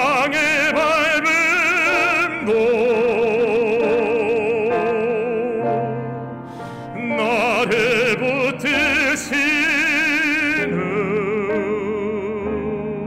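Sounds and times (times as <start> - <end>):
musical accompaniment: 0.0 - 13.0
operatic baritone singing: 0.0 - 13.0.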